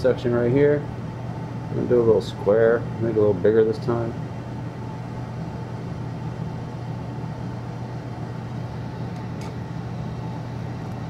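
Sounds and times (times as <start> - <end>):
blower humming: 0.0 - 11.0.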